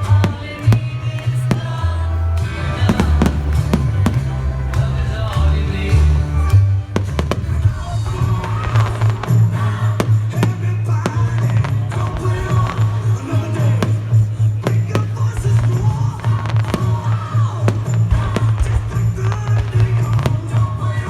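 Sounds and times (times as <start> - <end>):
firework bangs and crackles: 0.0 - 21.0
loud music with heavy bass: 0.0 - 21.0.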